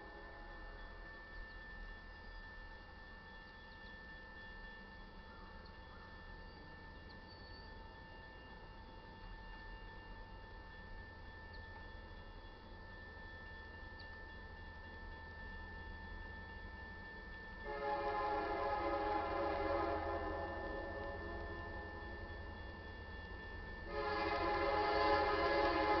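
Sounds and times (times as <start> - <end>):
railroad crossing bell ringing: 0.0 - 26.0.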